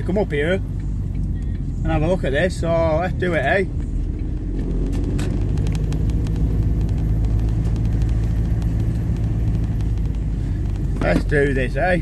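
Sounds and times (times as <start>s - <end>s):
car engine and tyre hum: 0.0s - 12.0s.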